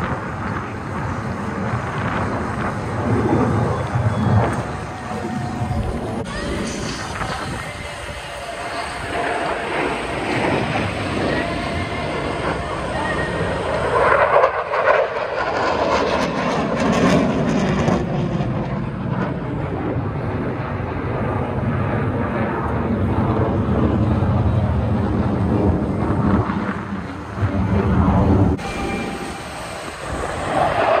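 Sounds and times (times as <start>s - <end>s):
airplane flying past: 0.0s - 31.0s.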